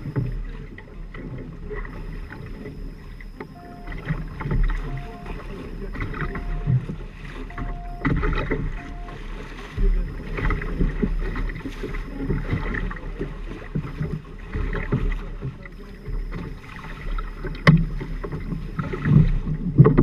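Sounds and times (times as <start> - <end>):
short beeps: 0.0 - 0.6, 1.7 - 14.4, 15.5 - 19.3
water splashing against hulls: 0.0 - 20.0
wind rumble on microphone: 0.0 - 20.0.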